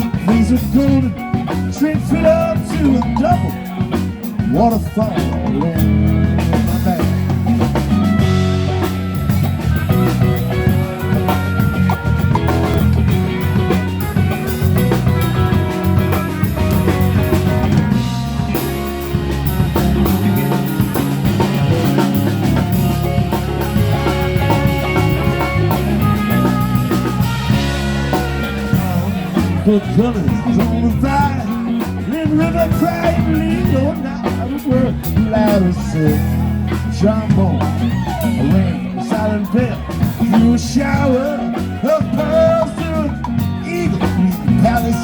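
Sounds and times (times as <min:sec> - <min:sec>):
live band playing: 0:00.0 - 0:45.0.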